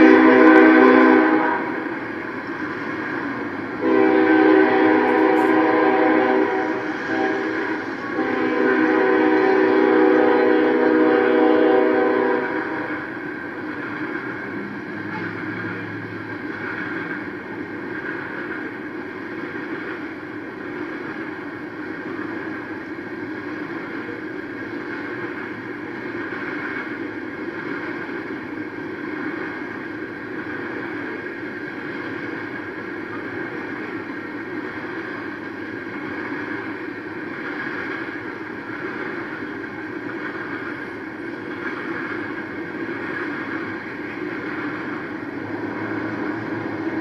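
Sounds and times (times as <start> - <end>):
freight train wheels on rail: 0.0 - 47.0.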